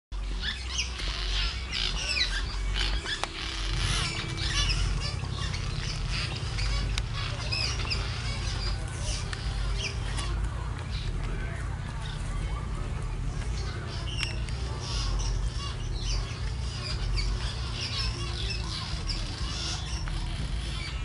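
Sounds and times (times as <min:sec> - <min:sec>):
low steady rumble: 0:00.2 - 0:21.0
swallows twittering: 0:00.2 - 0:21.0.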